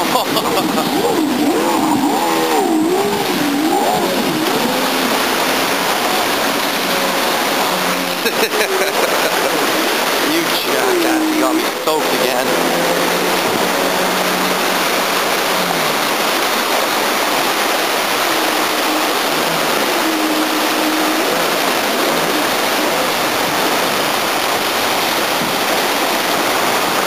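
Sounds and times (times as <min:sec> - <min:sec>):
faint boat engine hum: 0:00.0 - 0:27.0
river rapids rushing over rocks: 0:00.0 - 0:27.0.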